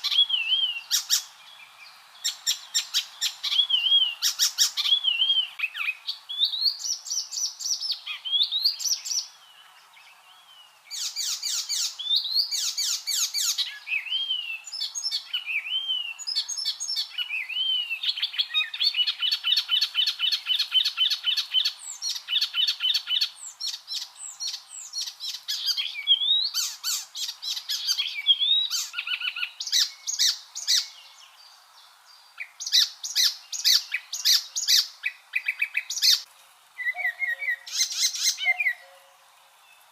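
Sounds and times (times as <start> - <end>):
warbler singing: 0.0 - 39.9.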